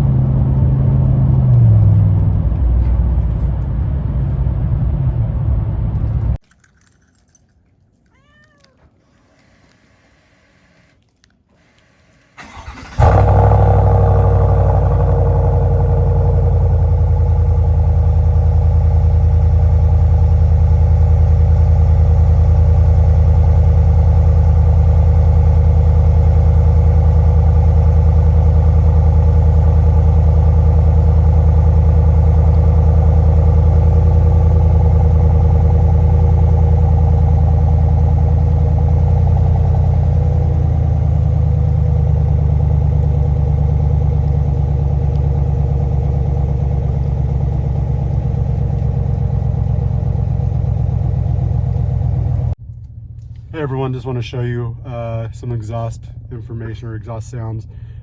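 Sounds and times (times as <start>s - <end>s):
truck engine deep drone: 0.0s - 6.4s, 12.4s - 58.0s.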